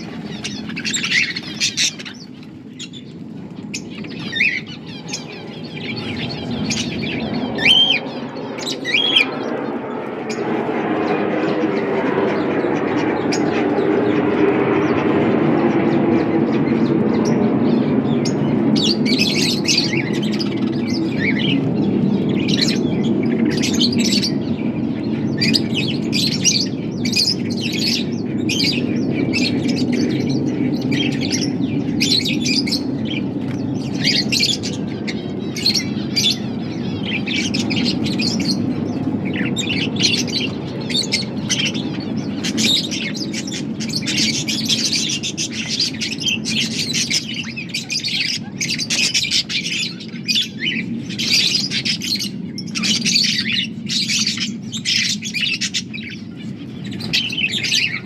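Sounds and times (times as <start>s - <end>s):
budgerigars chirping: 0.0s - 14.2s, 18.2s - 58.0s.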